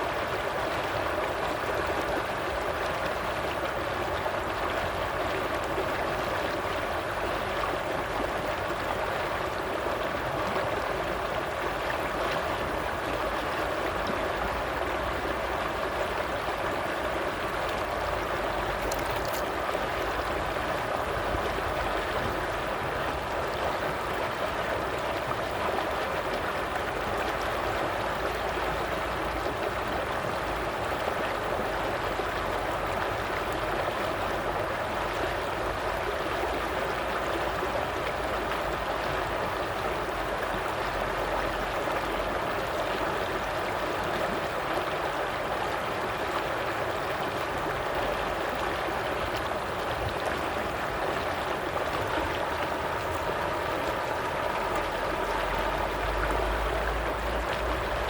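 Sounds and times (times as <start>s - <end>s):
stream water gurgling: 0.0s - 58.0s.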